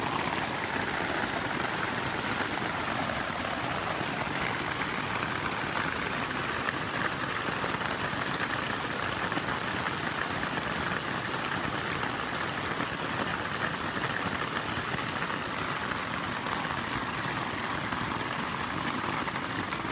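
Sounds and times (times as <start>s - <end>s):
rain pattering on tent fabric: 0.0s - 19.9s.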